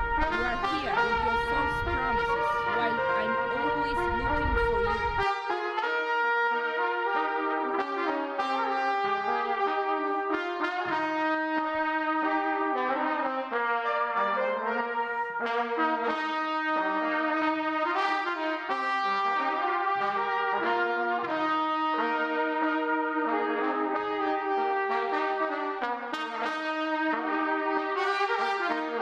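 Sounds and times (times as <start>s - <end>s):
brass ensemble playing: 0.0s - 29.0s.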